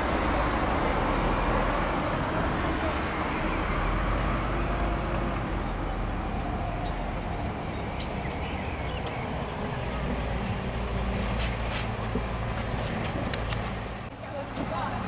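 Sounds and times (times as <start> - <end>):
bus engine rumbling: 0.0 - 15.0
street traffic: 0.0 - 15.0.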